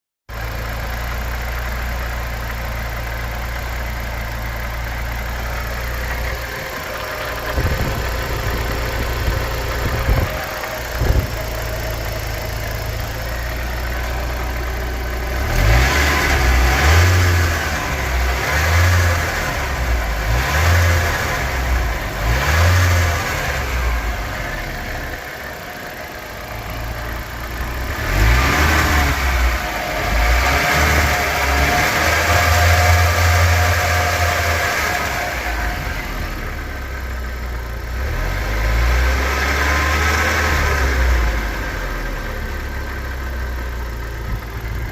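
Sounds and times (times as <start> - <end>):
car engine idling and revving: 0.3 - 44.9.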